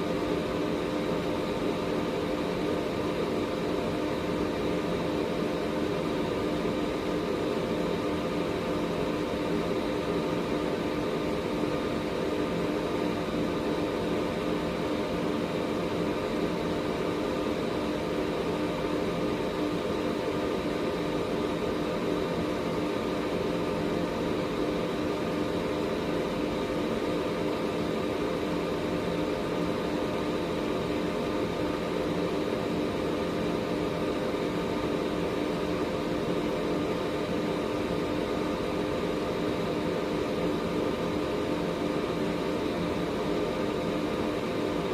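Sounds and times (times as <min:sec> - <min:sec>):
air purifier fan rushing: 0:00.0 - 0:44.9.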